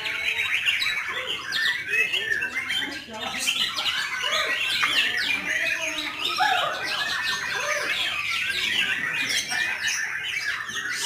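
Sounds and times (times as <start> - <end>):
birds singing whistles: 0.0 - 11.0.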